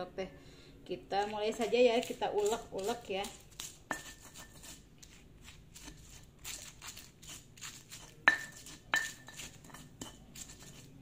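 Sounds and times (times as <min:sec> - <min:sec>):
stone pestle grinding in mortar: 0:01.2 - 0:11.0.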